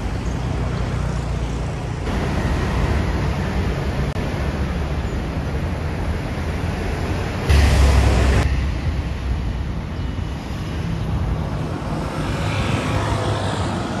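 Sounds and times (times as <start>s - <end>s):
loud rush of noise: 0.0s - 14.0s
low rumble of traffic: 0.0s - 14.0s.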